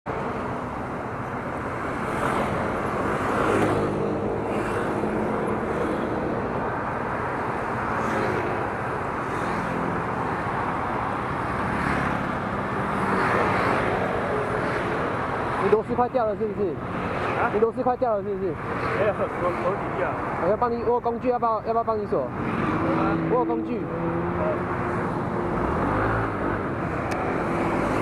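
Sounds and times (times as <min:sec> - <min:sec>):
traffic passing: 0:00.1 - 0:28.0.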